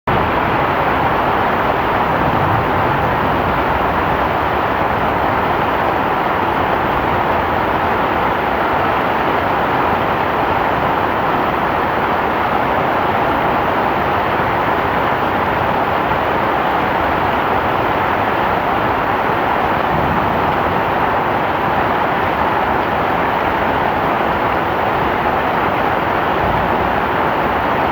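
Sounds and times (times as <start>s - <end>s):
heavy rain falling: 0.1s - 27.9s.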